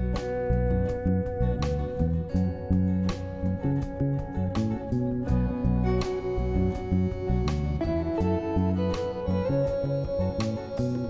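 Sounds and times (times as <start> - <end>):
instrumental music with plucked notes: 0.0 - 11.0.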